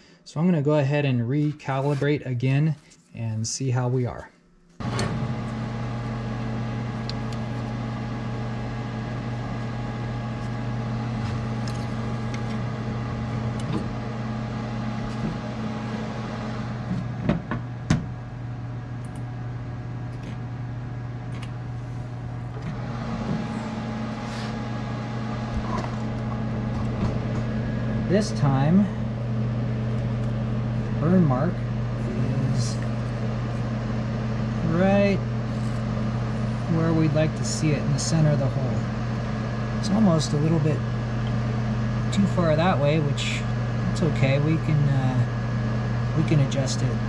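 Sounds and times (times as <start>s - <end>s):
laser cutter electric hum: 4.6s - 47.0s
water pump running: 4.8s - 17.4s, 21.2s - 47.0s.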